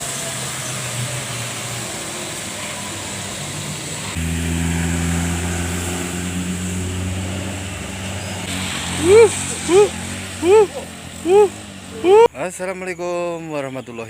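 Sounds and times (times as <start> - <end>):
vehicle engine running: 0.0 - 12.3
road noise: 0.0 - 13.5.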